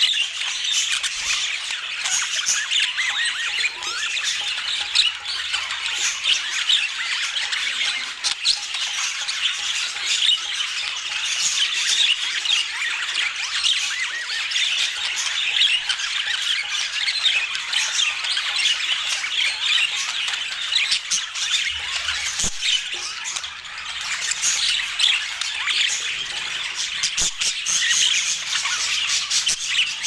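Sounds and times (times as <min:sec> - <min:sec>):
budgerigars chattering and squawking: 0:00.0 - 0:30.0.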